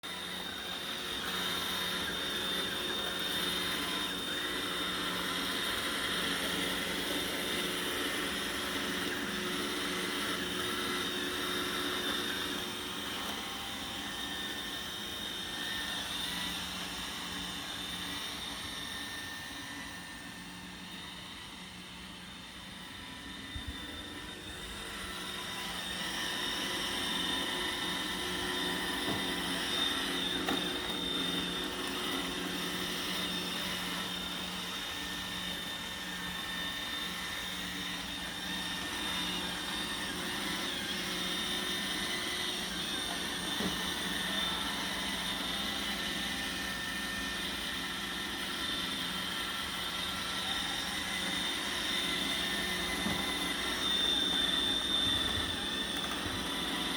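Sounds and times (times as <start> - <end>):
robot vacuum motor whir: 0.0 - 56.9.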